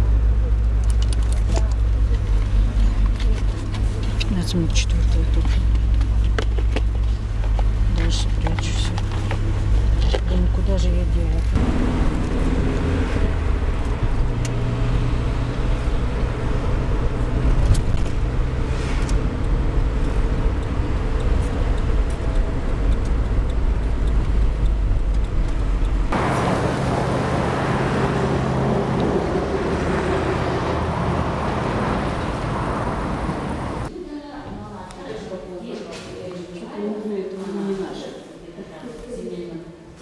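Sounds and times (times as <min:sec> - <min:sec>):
vehicle engine and road noise: 0:00.0 - 0:33.9.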